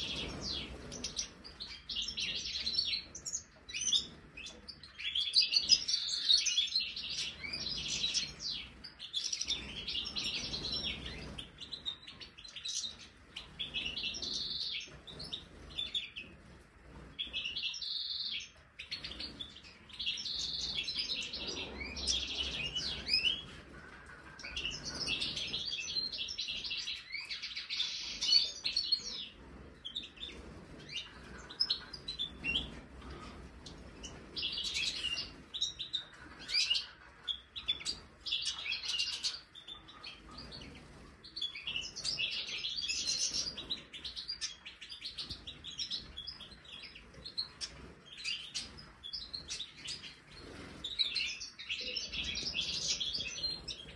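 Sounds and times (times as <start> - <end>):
birds twittering and singing: 0.0 - 53.9.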